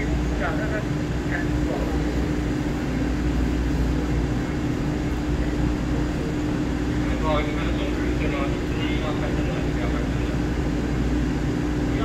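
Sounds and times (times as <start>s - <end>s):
electric train humming: 0.0s - 12.0s.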